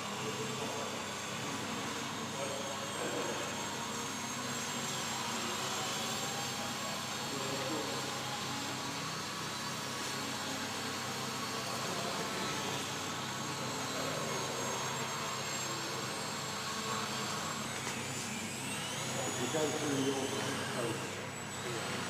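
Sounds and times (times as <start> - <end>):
small model plane motor buzzing: 0.0 - 22.0.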